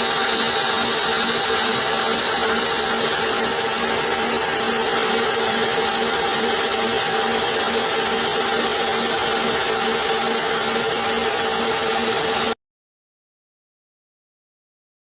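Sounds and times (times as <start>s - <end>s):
metal lathe humming: 0.0s - 12.6s.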